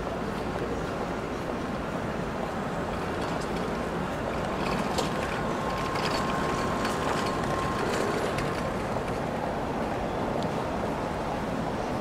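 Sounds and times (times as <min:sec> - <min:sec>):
city traffic hum: 0:00.0 - 0:12.0
faint steady whine: 0:00.0 - 0:12.0.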